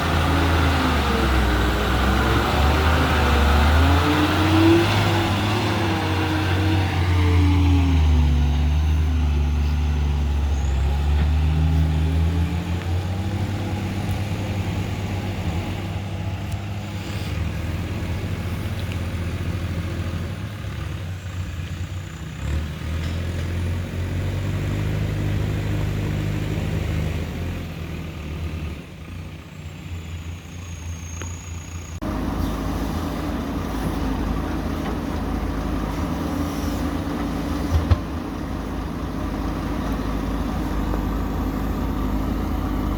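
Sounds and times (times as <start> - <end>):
heavy diesel engine revving: 0.0 - 42.9.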